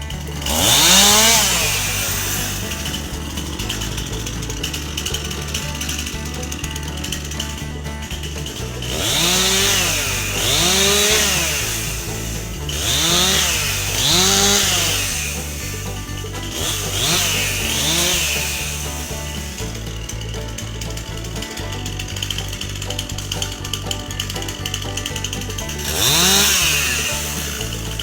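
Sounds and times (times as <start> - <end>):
background music: 0.0 - 28.0
chainsaw revving: 0.0 - 28.0.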